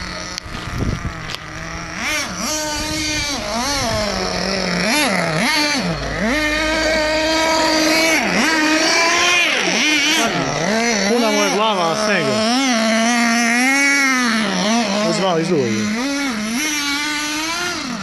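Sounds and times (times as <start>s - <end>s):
small fuel engine revving: 0.0s - 18.0s.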